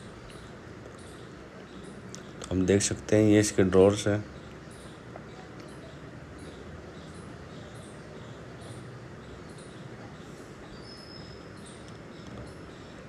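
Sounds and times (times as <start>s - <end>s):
room hum and hiss: 0.0s - 13.0s.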